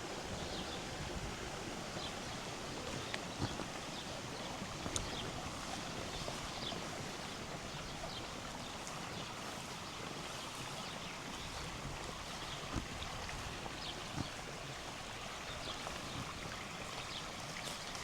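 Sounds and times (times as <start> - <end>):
river water running: 0.0 - 18.0.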